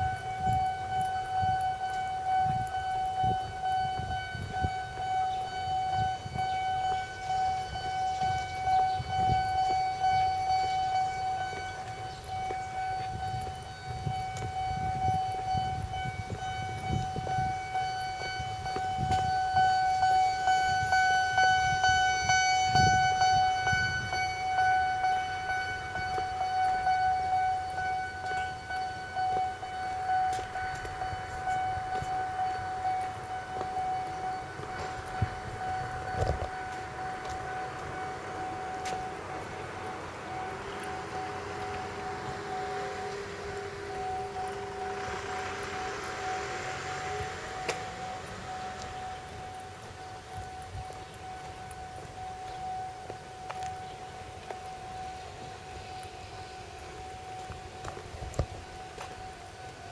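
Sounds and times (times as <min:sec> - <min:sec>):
level-crossing alarm clanging: 0:00.0 - 0:59.9.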